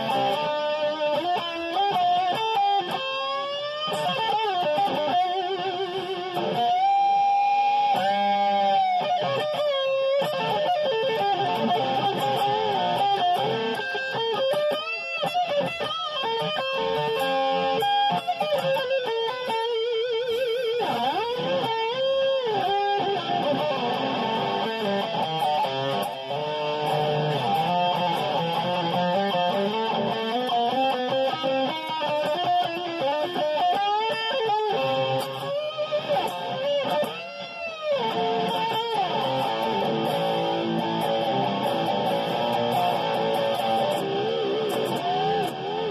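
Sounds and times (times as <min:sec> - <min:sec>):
electric guitar riffs through amp: 0:00.0 - 0:45.9.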